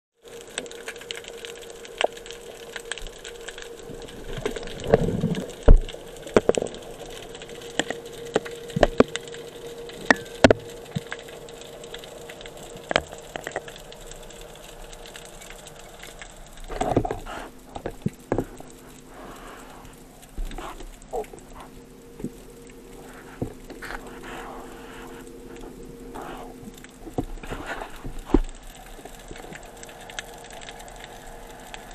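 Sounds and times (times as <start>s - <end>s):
underwater clicks and crackles: 0.2s - 31.9s
low hum: 0.3s - 31.9s.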